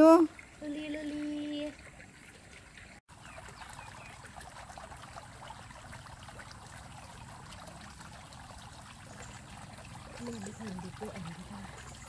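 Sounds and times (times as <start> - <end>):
water trickling and babbling: 0.0 - 12.0.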